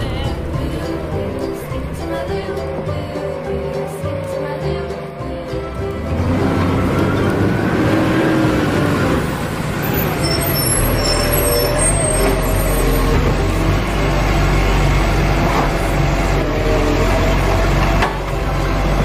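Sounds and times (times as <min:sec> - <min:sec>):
heavy truck engine running: 0:00.0 - 0:19.0.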